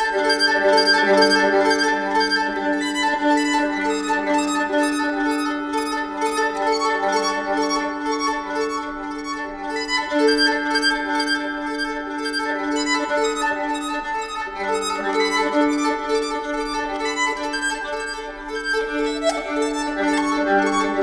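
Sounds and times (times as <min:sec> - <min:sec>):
bowed keyed fiddle melody: 0:00.0 - 0:21.0.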